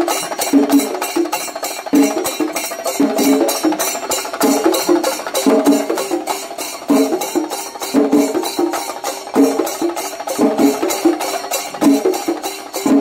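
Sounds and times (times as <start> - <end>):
drums playing fast beat: 0.0 - 13.0
hand cymbals: 0.0 - 13.0.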